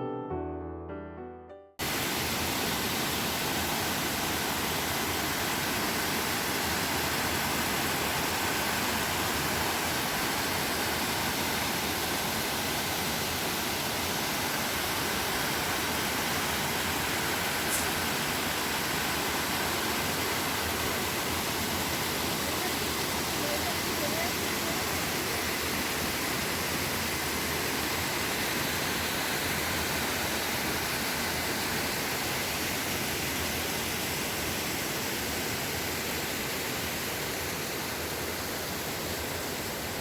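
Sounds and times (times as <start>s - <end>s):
waterfall rushing: 1.8s - 40.0s.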